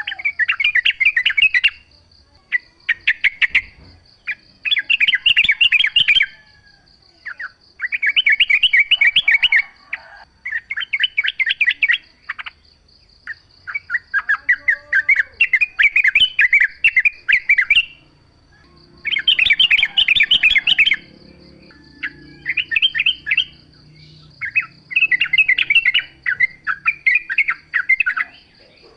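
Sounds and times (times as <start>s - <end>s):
bird chattering song: 0.0s - 28.9s.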